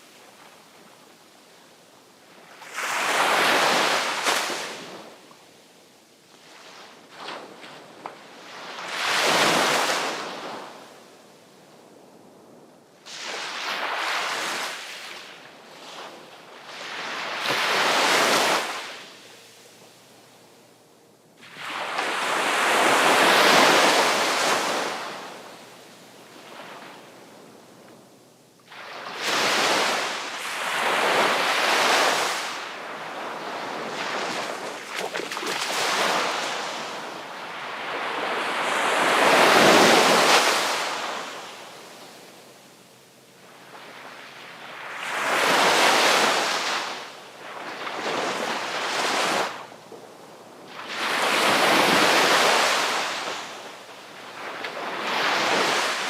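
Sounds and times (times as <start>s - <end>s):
sea waves breaking on shore: 2.2s - 5.2s, 6.3s - 11.2s, 13.0s - 20.5s, 21.4s - 27.8s, 28.6s - 56.0s.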